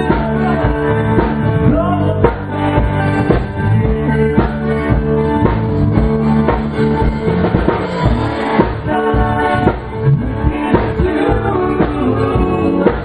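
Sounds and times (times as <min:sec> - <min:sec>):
drum kit steady beat: 0:00.0 - 0:13.0
electric guitars playing chords: 0:00.0 - 0:13.0.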